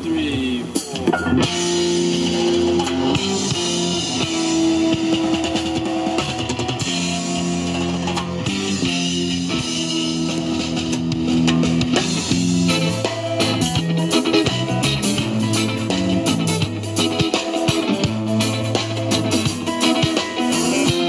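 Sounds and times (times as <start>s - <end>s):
bass guitar: 0.0s - 21.0s
drum kit with cymbals: 0.0s - 21.0s
electric guitars playing chords: 0.0s - 21.0s.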